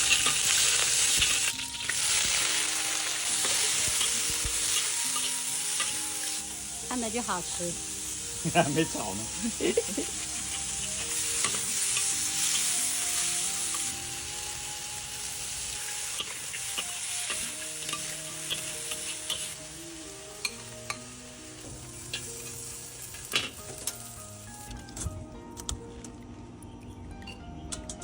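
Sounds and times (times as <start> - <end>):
shrimp sizzling in a wok: 0.0 - 24.6.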